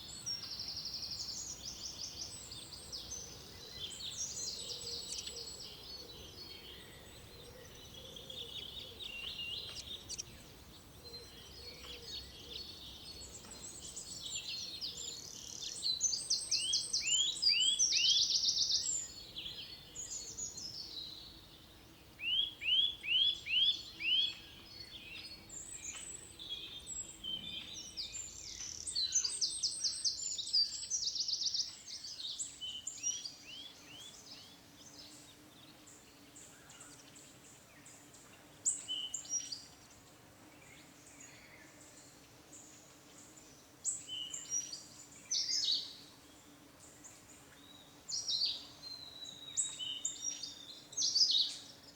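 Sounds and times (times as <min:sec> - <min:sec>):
forest birds singing: 0:00.0 - 0:51.9.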